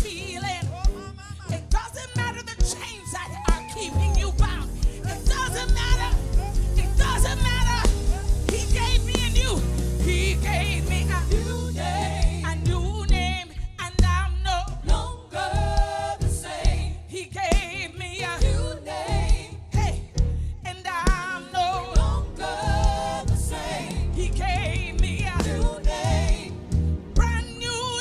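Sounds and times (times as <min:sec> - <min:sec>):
band with bass: 0:00.0 - 0:17.0, 0:17.6 - 0:28.0
gospel singing with vibrato: 0:00.0 - 0:28.0.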